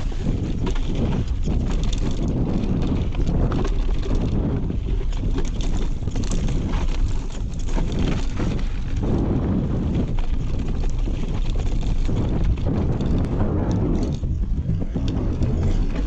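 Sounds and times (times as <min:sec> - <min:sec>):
bike rattling over rough ground: 0:00.0 - 0:16.0
wind buffeting microphone: 0:00.0 - 0:16.0.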